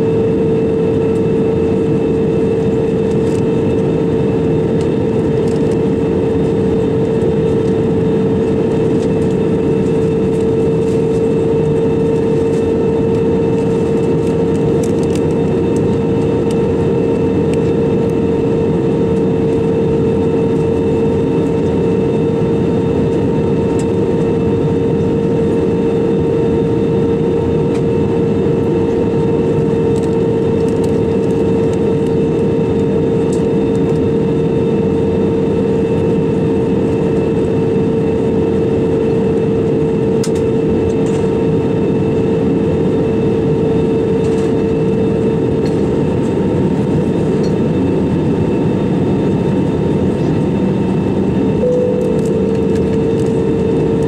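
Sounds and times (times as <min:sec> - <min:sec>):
airflow rushing in cabin: 0:00.0 - 0:54.0
jet engines droning: 0:00.0 - 0:54.0.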